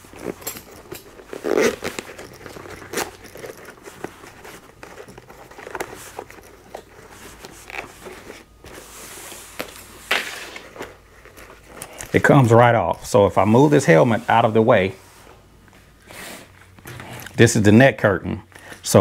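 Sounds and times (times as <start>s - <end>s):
fabric rustling and crinkling: 0.0s - 17.4s.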